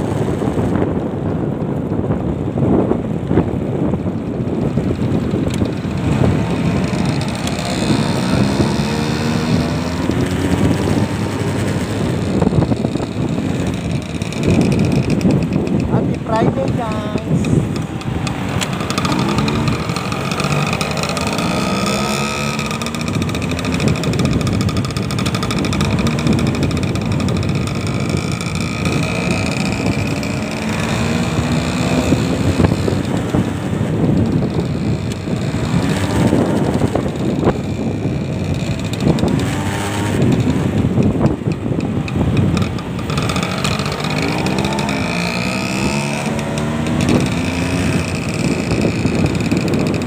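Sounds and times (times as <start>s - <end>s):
motorcycle engine running: 0.0s - 50.0s
road noise: 0.0s - 50.0s.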